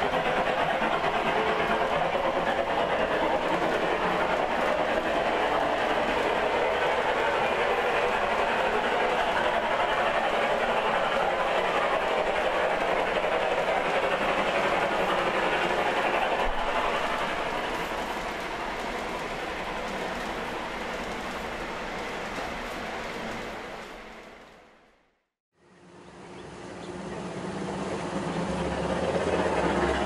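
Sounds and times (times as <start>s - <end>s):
model train wheels rolling on rails: 0.0s - 24.9s.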